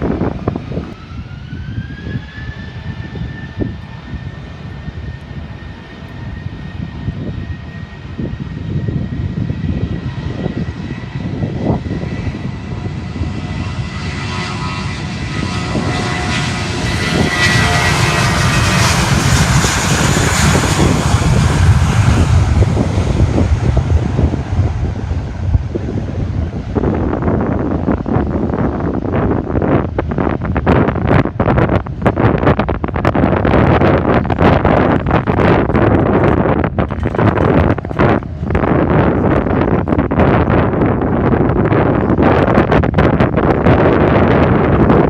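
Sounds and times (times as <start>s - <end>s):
aircraft engine high whine: 0.0s - 45.0s
rushing jet engine noise: 0.0s - 45.0s
wind rumble on microphone: 0.0s - 45.0s.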